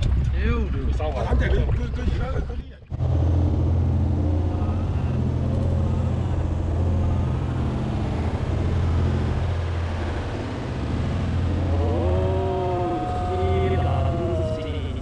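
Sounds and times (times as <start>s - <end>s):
boat motor droning: 0.0s - 15.0s
wind and water rushing: 3.0s - 15.0s.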